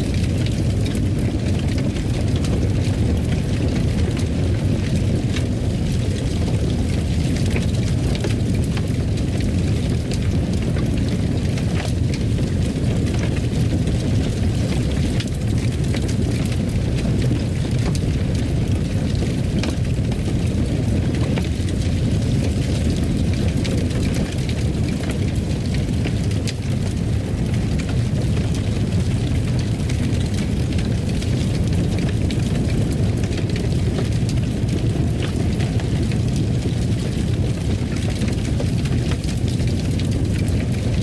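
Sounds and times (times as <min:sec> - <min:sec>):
fire crackling in fireplace: 0:00.0 - 0:41.0.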